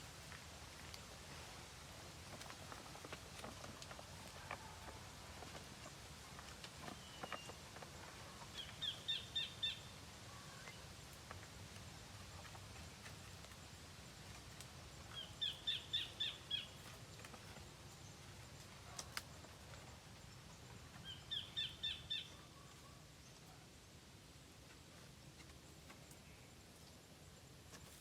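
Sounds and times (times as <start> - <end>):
faint low background noise: 0.0 - 28.0.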